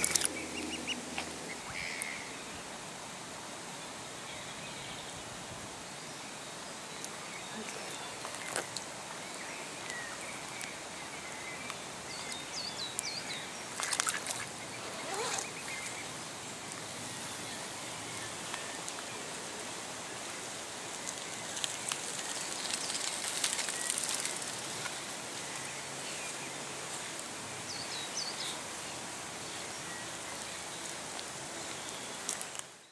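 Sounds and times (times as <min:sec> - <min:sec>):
steady outdoor hiss: 0:00.0 - 0:32.9.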